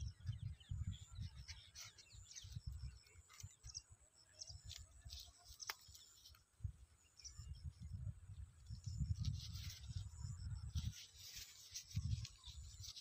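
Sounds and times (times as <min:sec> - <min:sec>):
wind rumbling on microphone: 0:00.0 - 0:05.3, 0:06.5 - 0:13.0
small birds chirping: 0:00.0 - 0:13.0.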